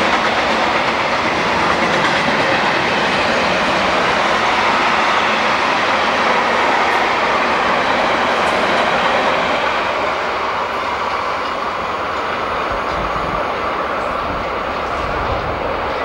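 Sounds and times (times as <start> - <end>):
freight train wheels on rail: 0.0 - 16.0.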